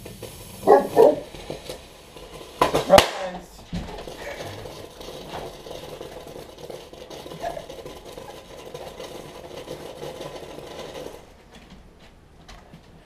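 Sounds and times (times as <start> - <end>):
firework rattling fizz: 0.0 - 11.6.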